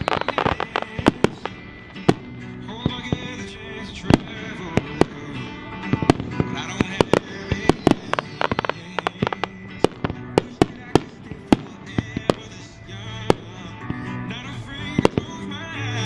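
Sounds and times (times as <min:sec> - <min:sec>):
firework bangs and cracks: 0:00.0 - 0:14.1, 0:14.8 - 0:16.0
background music: 0:00.0 - 0:16.0.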